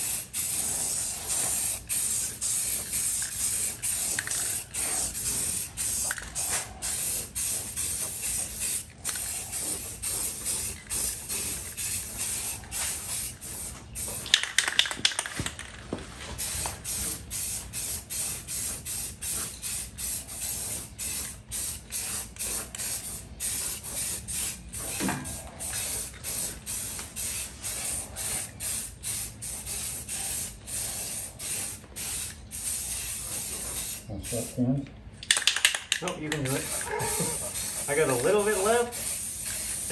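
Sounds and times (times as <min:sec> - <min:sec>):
aerosol spray can hissing: 0:00.0 - 0:14.8, 0:16.4 - 0:34.5, 0:36.5 - 0:39.9.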